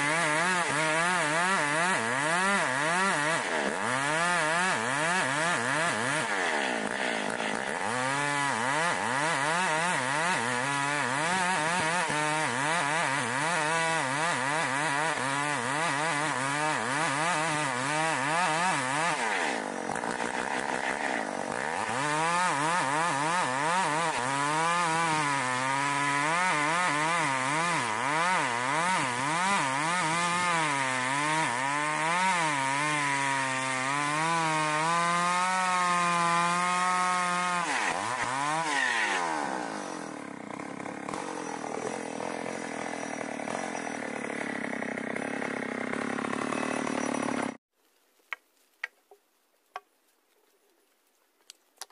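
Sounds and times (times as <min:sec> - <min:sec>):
chainsaw cutting log: 0:00.0 - 0:47.6.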